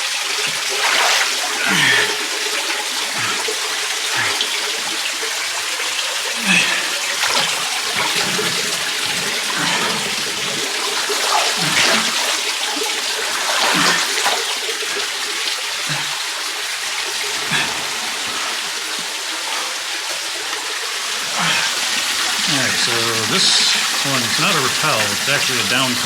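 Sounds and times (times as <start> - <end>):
creek water rushing: 0.0 - 26.0
water splashes: 0.0 - 26.0.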